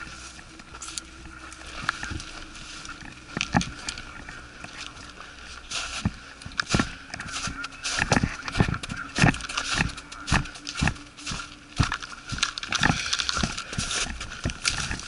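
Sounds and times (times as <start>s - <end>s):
footsteps: 0.0s - 15.0s
rustling of kit: 0.0s - 15.0s.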